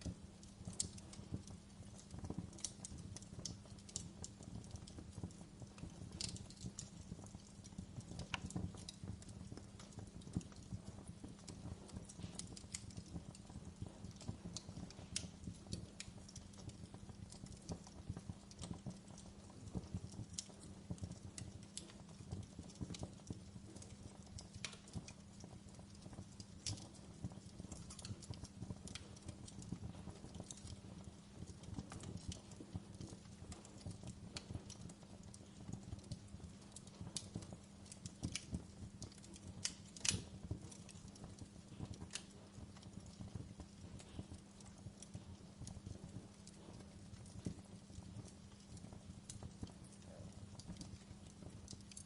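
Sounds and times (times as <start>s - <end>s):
low rumble of flames: 0.0s - 52.0s
wood fire crackling: 0.0s - 52.0s.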